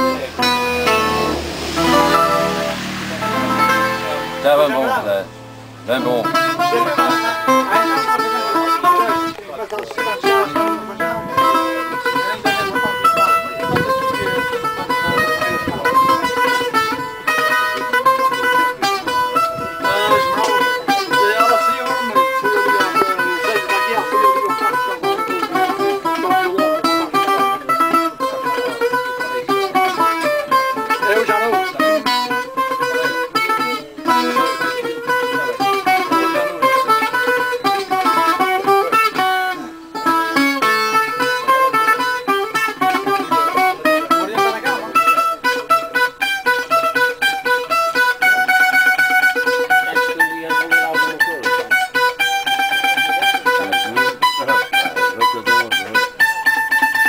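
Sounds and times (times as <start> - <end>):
plucked guitar melody: 0.0 - 57.0.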